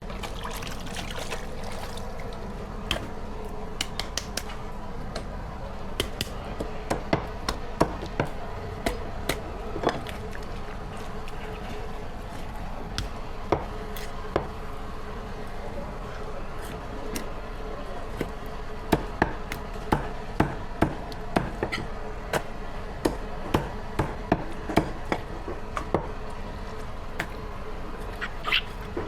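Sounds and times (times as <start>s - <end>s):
background hum: 0.0s - 29.0s.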